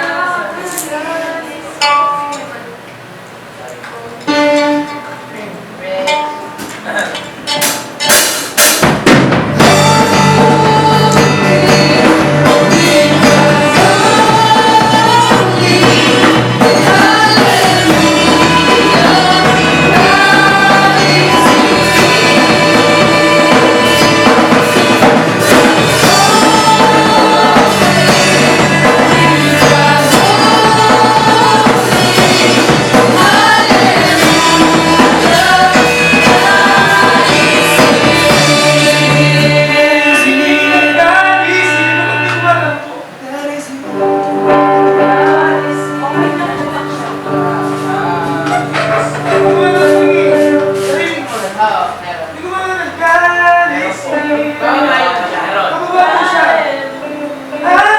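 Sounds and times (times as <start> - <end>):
band playing: 0.0 - 57.9
person singing: 9.6 - 57.9.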